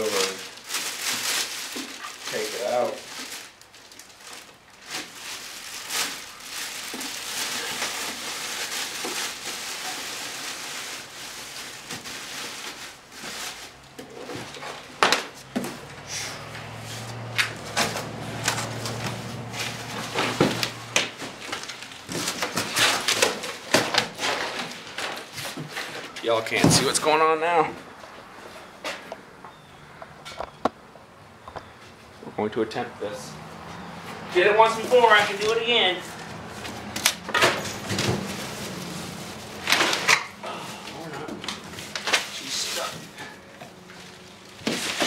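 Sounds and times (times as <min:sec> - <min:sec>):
cardboard rustling and scraping: 0:00.0 - 0:27.0, 0:34.0 - 0:45.0.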